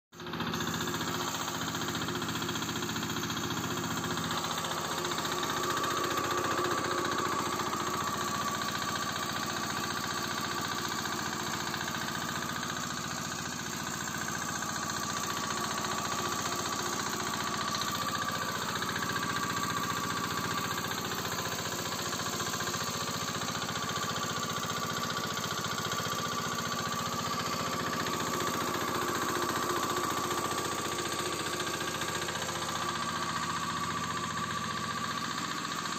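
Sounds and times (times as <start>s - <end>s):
diesel generator running steadily: 0.2s - 35.9s.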